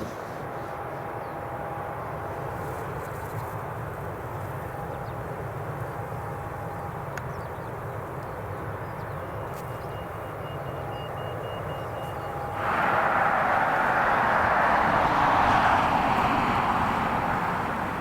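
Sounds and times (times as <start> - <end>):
jet engines rumbling at taxi power: 0.0 - 18.0.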